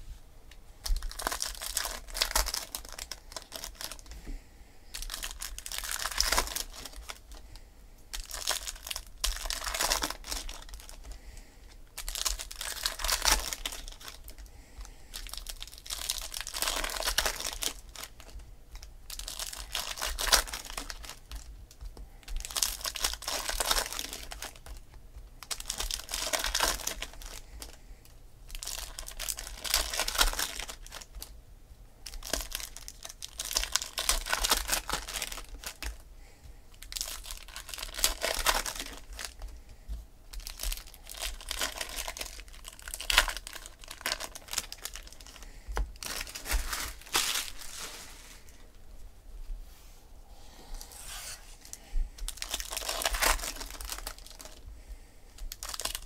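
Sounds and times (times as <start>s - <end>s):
foil wrappers crinkling and tearing: 0.8s - 4.2s, 4.9s - 7.5s, 8.1s - 27.8s, 28.4s - 31.3s, 32.0s - 36.0s, 36.7s - 39.6s, 40.3s - 48.6s, 50.8s - 54.7s, 55.4s - 56.0s.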